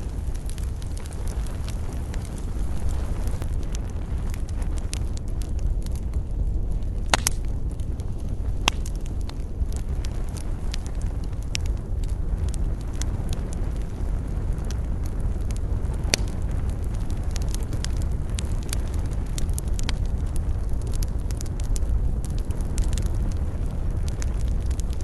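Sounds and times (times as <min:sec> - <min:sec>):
campfire crackling and popping: 0:00.0 - 0:25.0
steady low rumble: 0:00.0 - 0:25.0.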